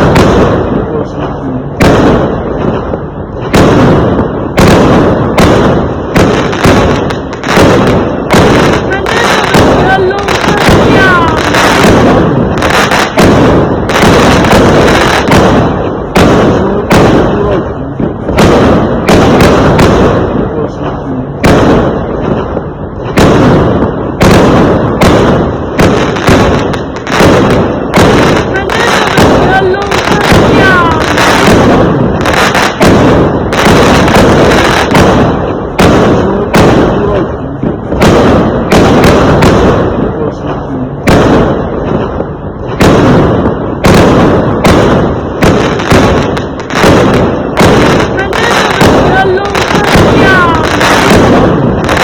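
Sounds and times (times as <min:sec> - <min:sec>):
fireworks bangs with echo: 0:00.0 - 0:52.0.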